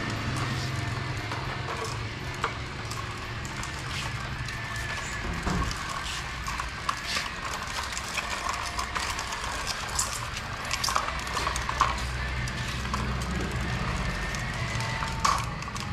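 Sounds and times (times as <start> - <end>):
plastic toy trucks rattling on concrete: 0.0 - 15.9.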